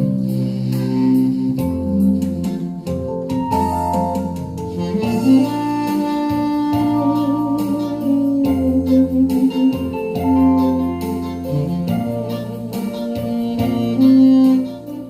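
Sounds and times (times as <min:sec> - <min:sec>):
backing music with bass and beat: 0:00.0 - 0:15.0
saxophone slow melody: 0:00.0 - 0:15.0.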